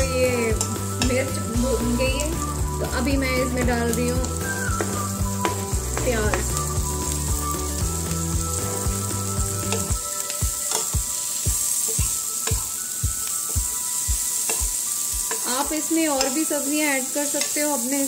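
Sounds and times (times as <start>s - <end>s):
background music with steady beat: 0.0s - 17.5s
onions sizzling in hot oil: 0.0s - 18.0s
spoon stirring in frying pan: 2.7s - 18.0s.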